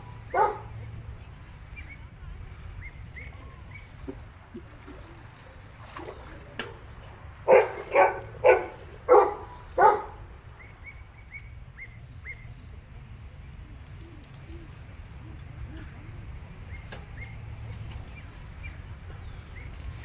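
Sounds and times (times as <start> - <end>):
low outdoor background noise: 0.0 - 20.0.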